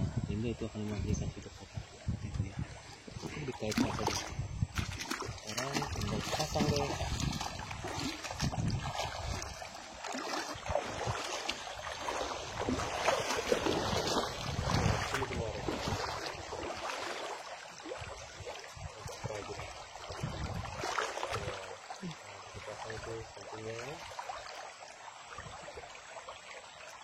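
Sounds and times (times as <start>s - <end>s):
river water splashing: 0.8s - 27.0s.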